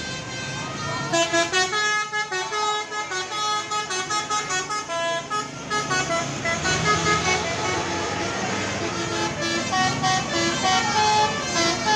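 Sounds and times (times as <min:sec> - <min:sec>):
multi-tone bus air horn melody: 0:00.0 - 0:11.9.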